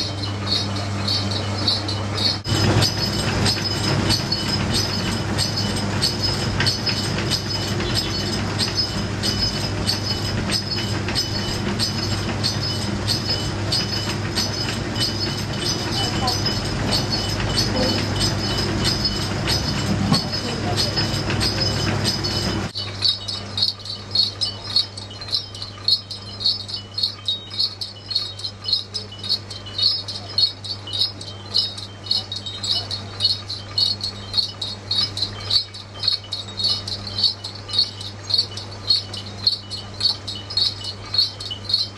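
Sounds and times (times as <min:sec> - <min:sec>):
small bells jingling: 0:00.0 - 0:41.9
street noise: 0:00.0 - 0:41.9.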